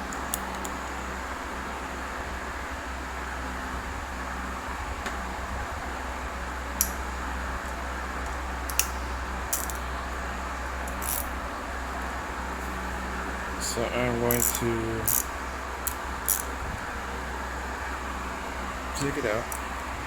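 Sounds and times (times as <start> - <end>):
fan whirring hum: 0.0 - 20.0.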